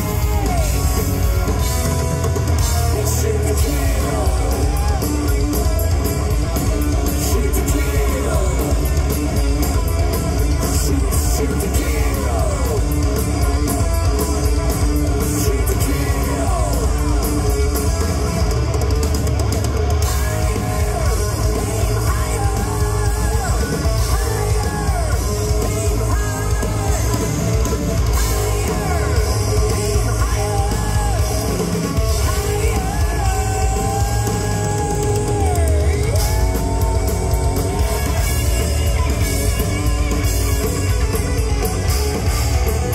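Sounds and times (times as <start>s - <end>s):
heavy metal band playing live: 0.0s - 42.9s
sung vocals: 0.0s - 42.9s.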